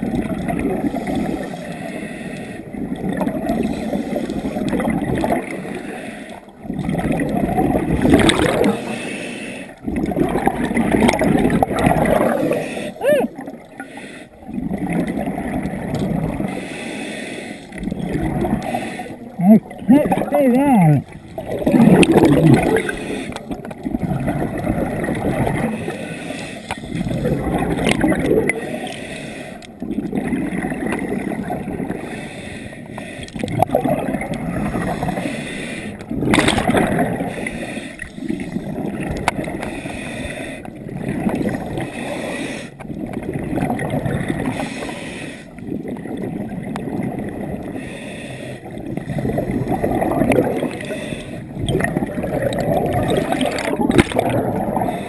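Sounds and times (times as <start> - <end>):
exhaust bubbles gurgling underwater: 0.0 - 55.0.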